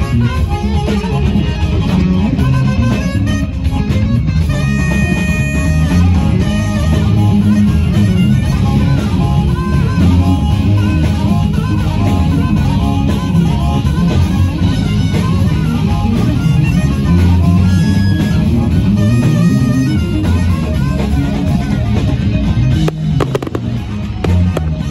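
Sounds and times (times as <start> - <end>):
live rock band playing: 0.0 - 24.9.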